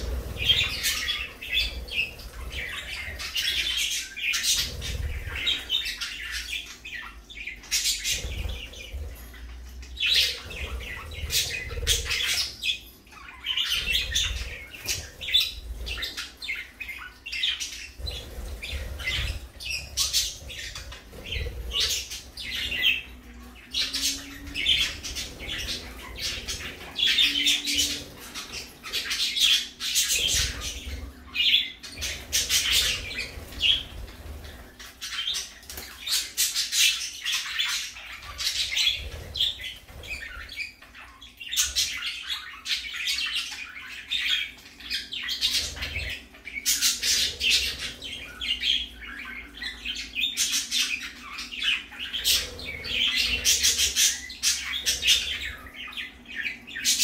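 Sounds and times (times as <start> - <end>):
budgerigars chattering and chirping: 0.0 - 57.0.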